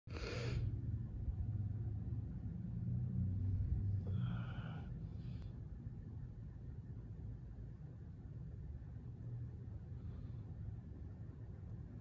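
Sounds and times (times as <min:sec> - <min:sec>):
low background rumble: 0:00.1 - 0:12.0.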